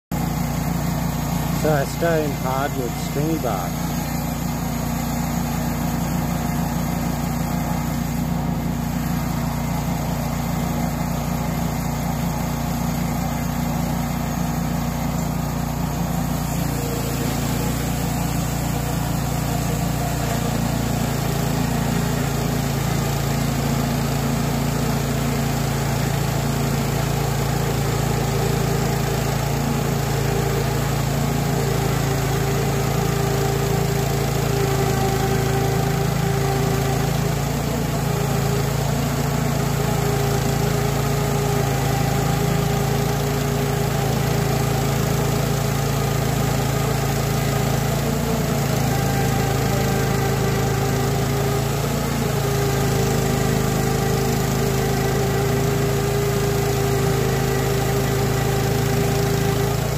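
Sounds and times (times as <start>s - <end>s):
bandsaw mill sawing log: 0.1s - 59.9s.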